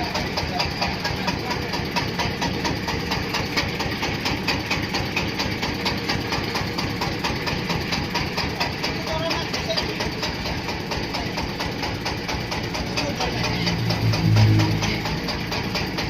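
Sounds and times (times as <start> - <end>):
corn sheller machine running: 0.0 - 16.0
diesel engine knocking: 0.0 - 16.0.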